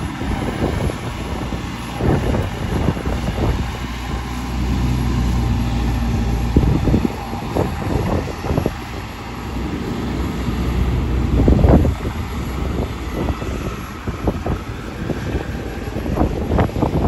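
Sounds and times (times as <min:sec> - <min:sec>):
engine running: 0:00.0 - 0:17.0
wind buffeting microphone: 0:00.0 - 0:17.0.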